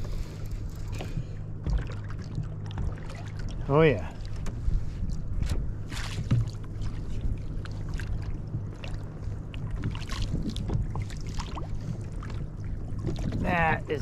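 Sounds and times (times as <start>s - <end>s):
low hum: 0.0s - 14.0s
water lapping against kayak hull: 0.0s - 14.0s.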